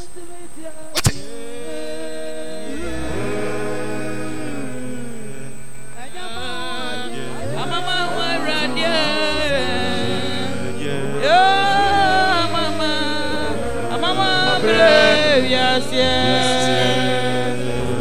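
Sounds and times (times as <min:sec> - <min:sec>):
person singing long gliding notes: 0:00.0 - 0:18.0
sustained backing notes: 0:01.3 - 0:18.0.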